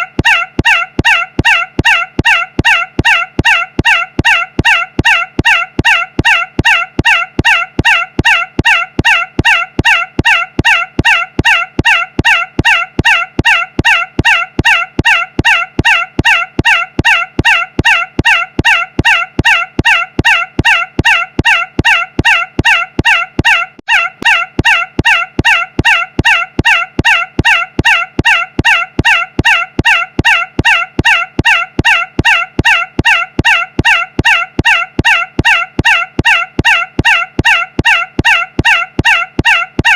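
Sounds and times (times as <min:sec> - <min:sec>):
loud pitched squawk: 0:00.0 - 0:39.6.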